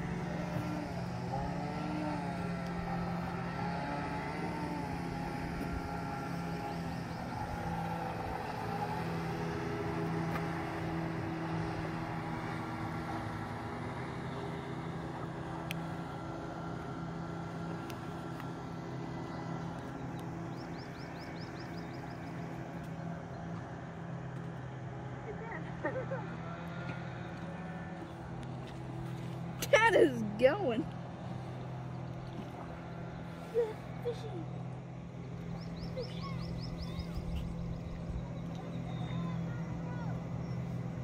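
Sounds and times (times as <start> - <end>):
motorboat engine running: 0.0 - 41.0.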